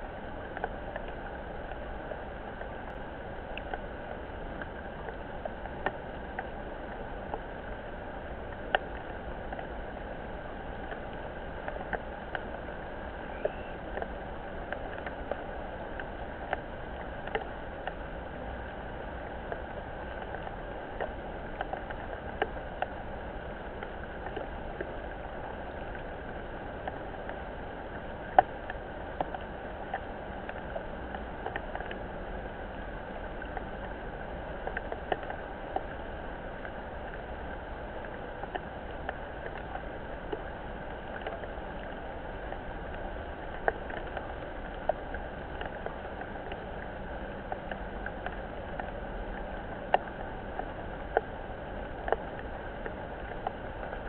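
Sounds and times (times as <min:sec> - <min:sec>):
rain falling on a pond: 0:00.0 - 0:54.0
sharp drip ticks: 0:00.0 - 0:54.0.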